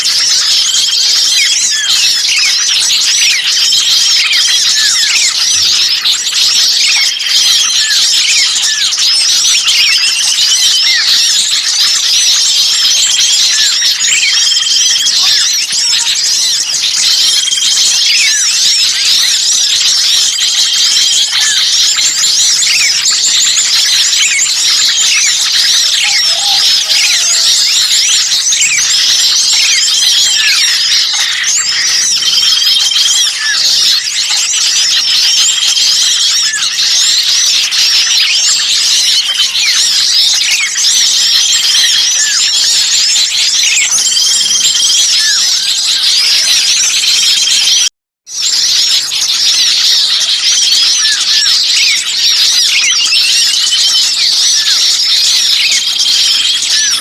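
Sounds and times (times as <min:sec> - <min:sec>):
small birds chattering and calling: 0:00.0 - 0:57.0.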